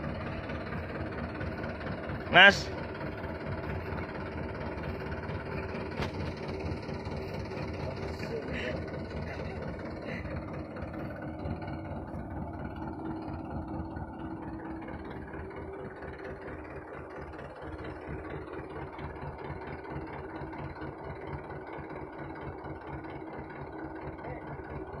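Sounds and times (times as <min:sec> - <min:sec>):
diesel engine low throb: 0:00.0 - 0:25.0.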